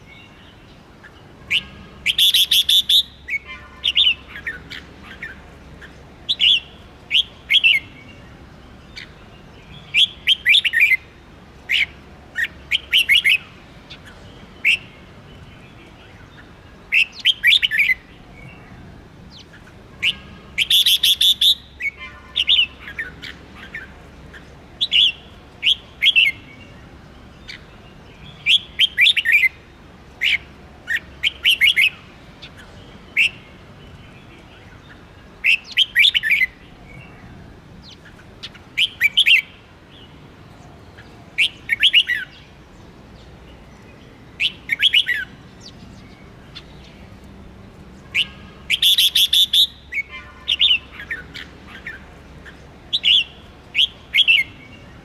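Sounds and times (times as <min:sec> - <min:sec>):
bird singing sweeping notes: 0:00.0 - 0:40.1, 0:41.0 - 0:47.1, 0:48.0 - 0:55.0.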